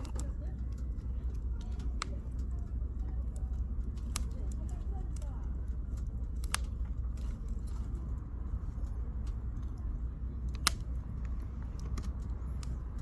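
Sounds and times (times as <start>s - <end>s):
campfire crackling and popping: 0.0s - 13.0s
low rumble of fire: 0.0s - 13.0s.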